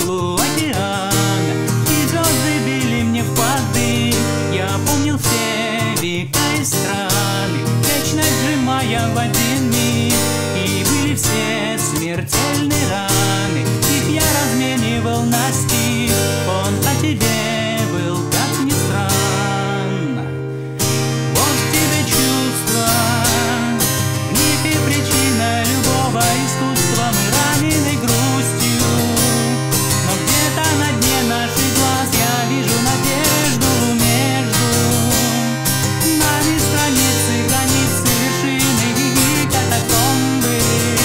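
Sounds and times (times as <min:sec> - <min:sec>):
man singing: 0:00.0 - 0:20.4, 0:21.2 - 0:41.0
acoustic guitar strumming: 0:00.0 - 0:41.0.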